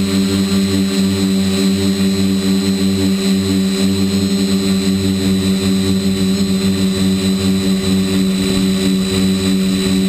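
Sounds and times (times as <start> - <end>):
quadcopter propellers buzzing: 0.0 - 10.0.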